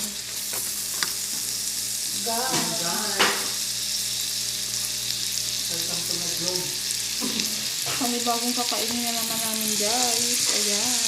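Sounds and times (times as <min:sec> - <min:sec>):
rice sizzling in a pan: 0:00.0 - 0:11.0.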